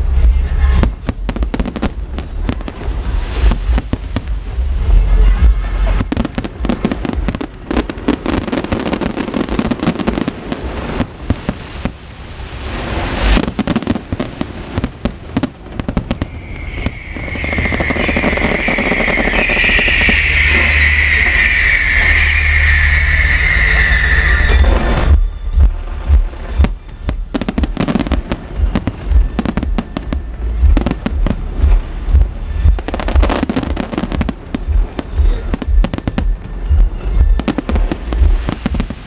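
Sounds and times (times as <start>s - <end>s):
deep fireworks thumps: 0.0s - 12.0s, 13.2s - 39.0s
fireworks bangs and crackles: 0.0s - 39.0s.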